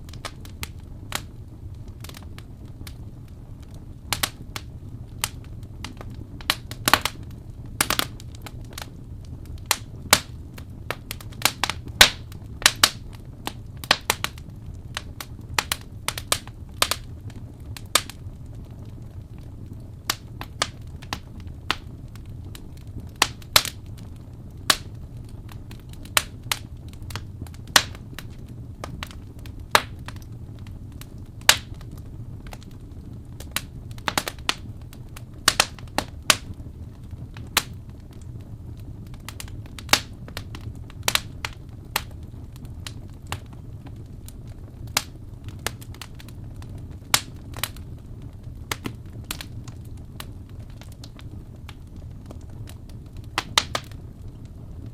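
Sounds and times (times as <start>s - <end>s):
sharp pops from fire: 0.0s - 54.9s
steady low rumble: 0.0s - 54.9s
wood fire crackling: 0.0s - 54.9s.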